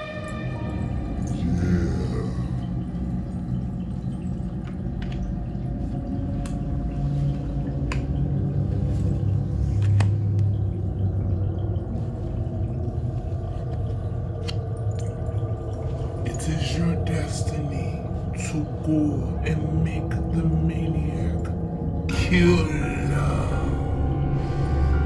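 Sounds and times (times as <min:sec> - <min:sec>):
low rumbling drone: 0:00.0 - 0:25.0.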